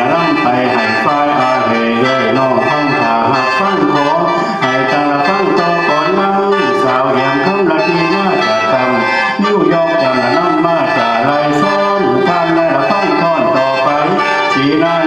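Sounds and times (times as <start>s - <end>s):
man singing: 0.0s - 15.0s
mouth organ melody: 0.0s - 15.0s.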